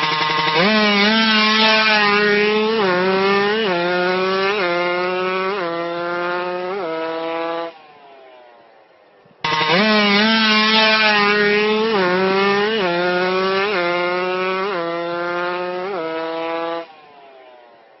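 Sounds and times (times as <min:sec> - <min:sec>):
motor scooter engine buzzing: 0:00.0 - 0:18.0.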